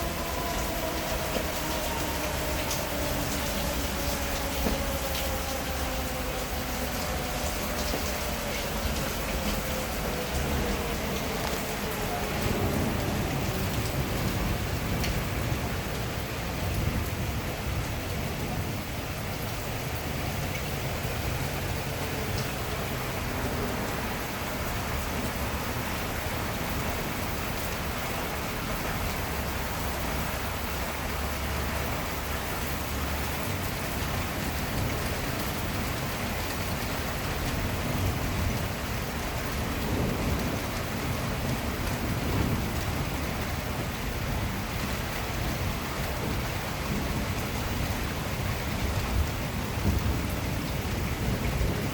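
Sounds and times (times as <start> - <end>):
hard rain in strong wind: 0.0 - 51.9.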